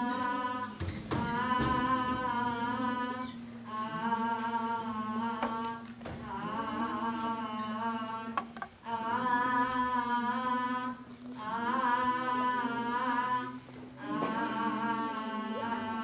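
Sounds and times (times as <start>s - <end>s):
woman humming: 0.0s - 16.0s.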